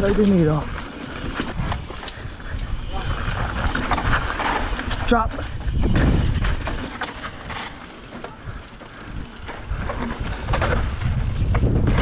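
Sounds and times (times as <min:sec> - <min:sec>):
bike tyres rolling over dirt and rock: 0:00.0 - 0:12.0
bike knocks and rattles: 0:00.8 - 0:12.0.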